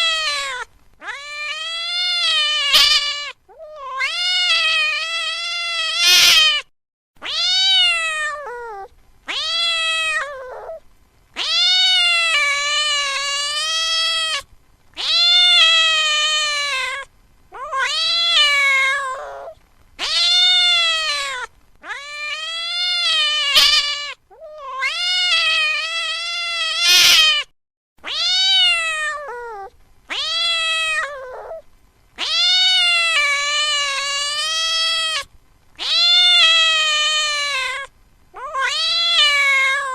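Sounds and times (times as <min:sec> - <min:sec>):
cat meowing: 0:00.0 - 0:10.8, 0:11.4 - 0:31.6, 0:32.2 - 0:39.9.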